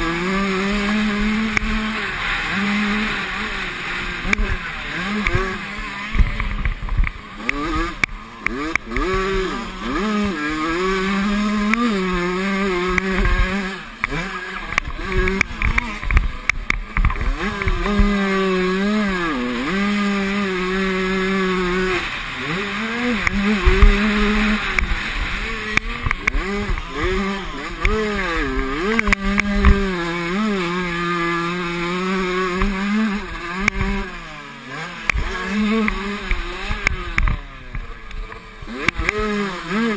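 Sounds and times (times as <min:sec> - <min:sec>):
motocross bike engines racing: 0:00.0 - 0:39.9.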